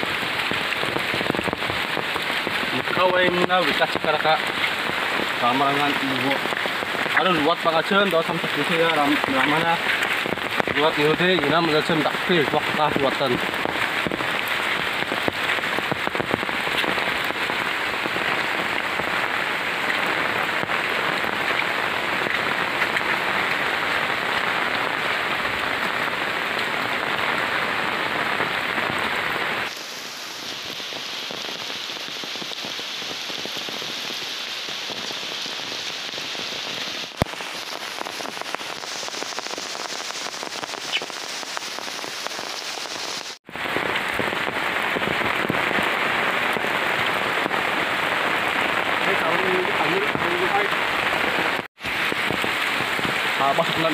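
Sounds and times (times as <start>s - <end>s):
heavy rain on an umbrella: 0.0s - 53.9s.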